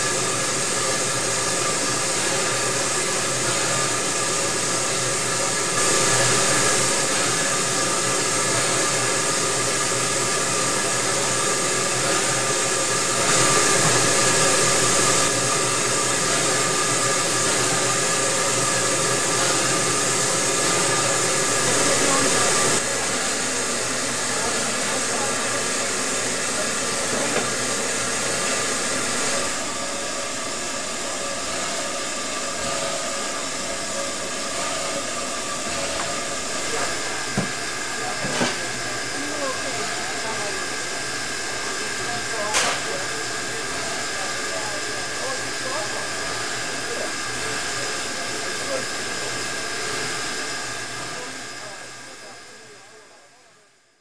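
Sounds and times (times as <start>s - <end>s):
steam hissing from a locomotive: 0.0s - 53.3s.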